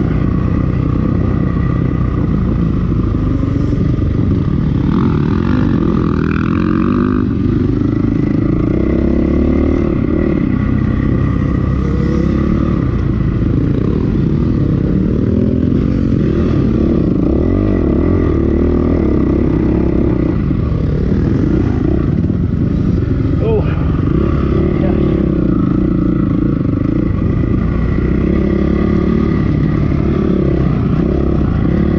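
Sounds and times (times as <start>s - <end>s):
dirt bike engine revving: 4.1s - 31.9s.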